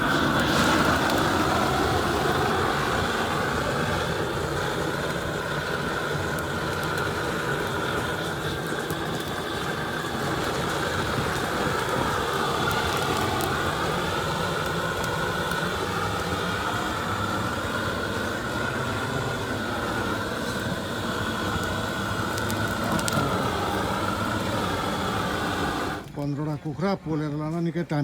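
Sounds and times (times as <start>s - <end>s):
gas torch flame rushing: 0.0s - 26.3s.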